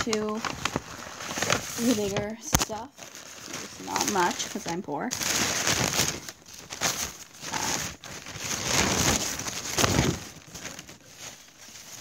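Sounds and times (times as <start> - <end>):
rustling handling noise: 0.0 - 12.0.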